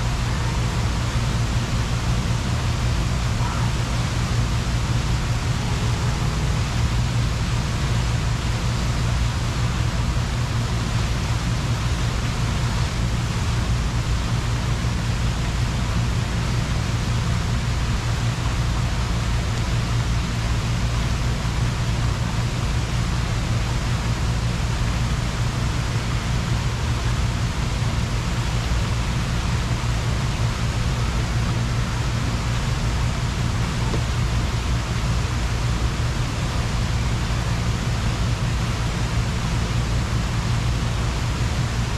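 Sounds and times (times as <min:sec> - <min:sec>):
fountain water rushing and splashing: 0:00.0 - 0:41.9.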